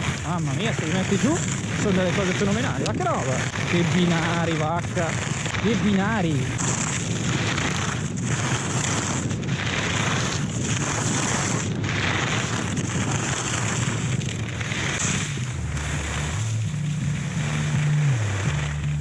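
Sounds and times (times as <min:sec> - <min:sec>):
skis scraping on hard snow: 0:00.0 - 0:19.0
wind on microphone: 0:00.0 - 0:19.0.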